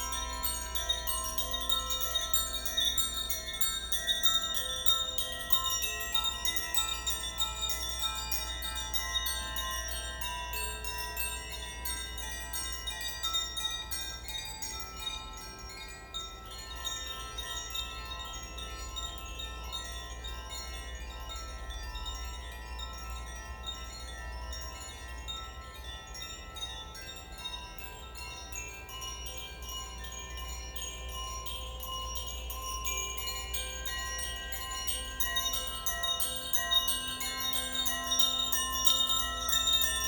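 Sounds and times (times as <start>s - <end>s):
chimes ringing: 0.0s - 40.0s.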